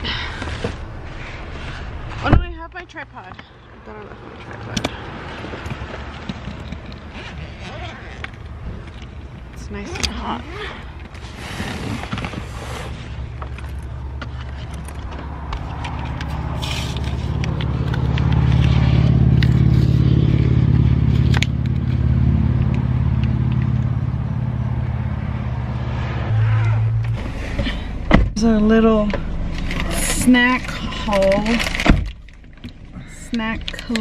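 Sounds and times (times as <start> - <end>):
engine humming: 0.0 - 34.0.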